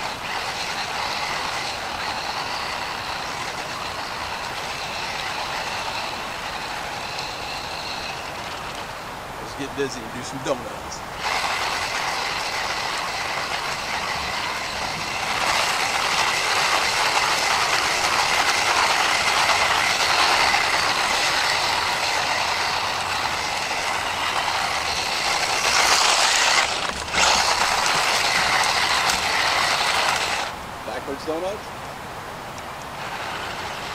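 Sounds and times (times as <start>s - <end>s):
rc truck motor whine: 0.0s - 30.6s, 32.8s - 33.9s
spinning tyres: 0.0s - 31.6s, 32.5s - 33.9s.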